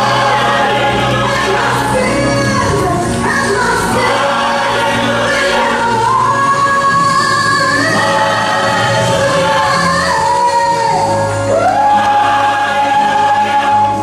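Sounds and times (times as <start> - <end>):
gospel singers holding long notes: 0.0 - 14.0
steady musical accompaniment: 0.0 - 14.0.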